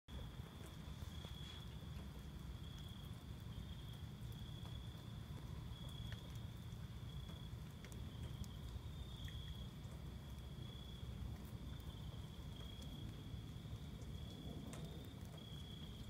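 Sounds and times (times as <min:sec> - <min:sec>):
rain patter with drips: 0:00.1 - 0:16.0.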